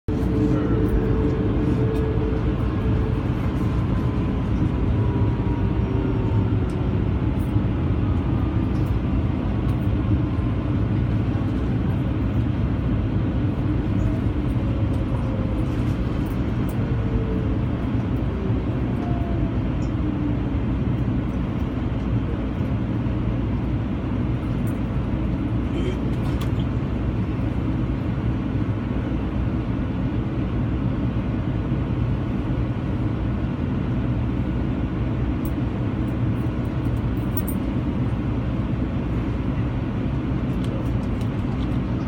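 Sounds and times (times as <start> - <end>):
train rumbling: 0.1 - 42.0.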